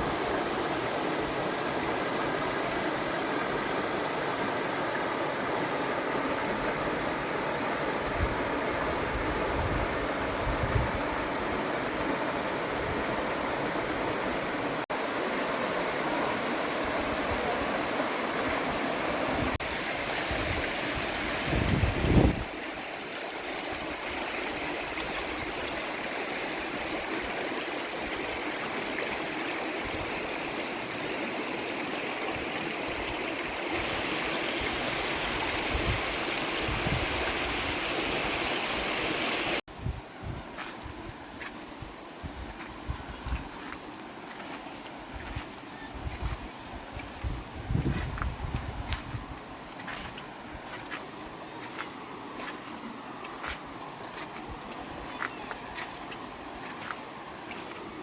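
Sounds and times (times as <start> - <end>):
stream water rushing over rocks: 0.0 - 39.6, 40.6 - 58.0.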